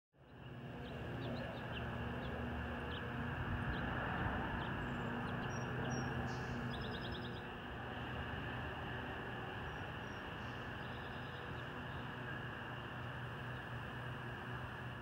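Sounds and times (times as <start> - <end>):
low outdoor rumble: 0.2 - 15.0
small birds chirping: 0.2 - 15.0.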